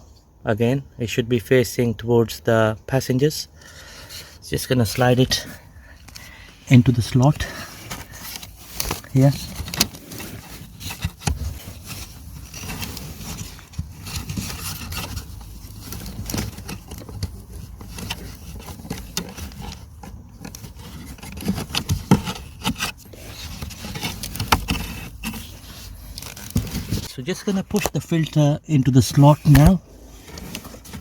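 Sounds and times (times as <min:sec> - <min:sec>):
plastic filter scraping and rustling: 0:03.7 - 0:31.0.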